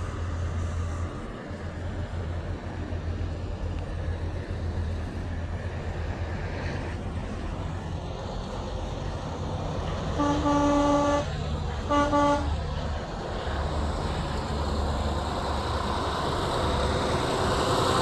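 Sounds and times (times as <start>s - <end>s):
general traffic noise: 0.0s - 18.0s
large vehicle engine rumble: 0.0s - 18.0s.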